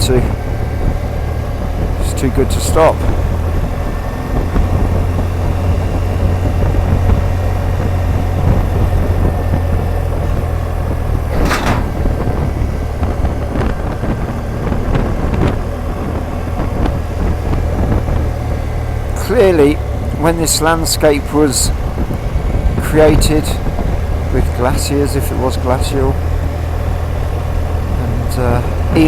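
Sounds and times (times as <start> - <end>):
motorcycle engine rumble: 0.0 - 29.0
rushing wind: 0.0 - 29.0.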